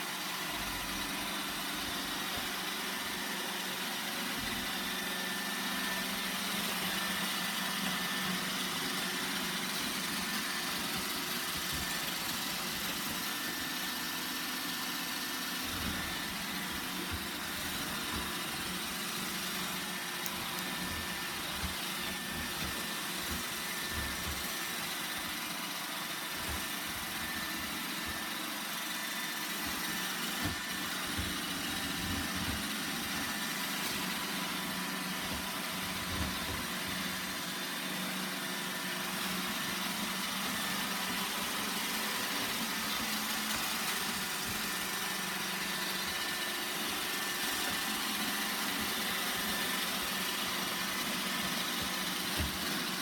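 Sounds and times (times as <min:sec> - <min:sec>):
robot vacuum running: 0:00.0 - 0:53.0.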